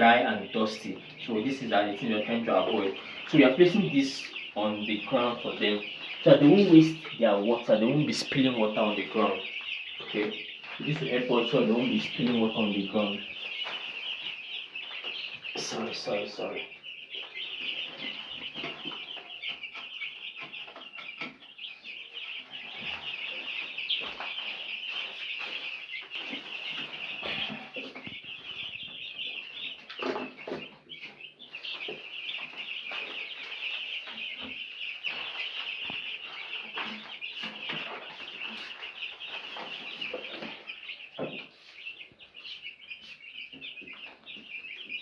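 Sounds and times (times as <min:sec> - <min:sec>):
chicks peeping: 0:00.0 - 0:45.0.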